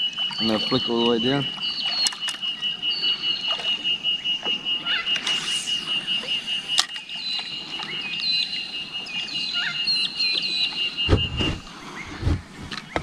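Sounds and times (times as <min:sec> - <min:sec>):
bird high trill: 0:00.0 - 0:11.6
short whistled bird calls: 0:00.0 - 0:12.2.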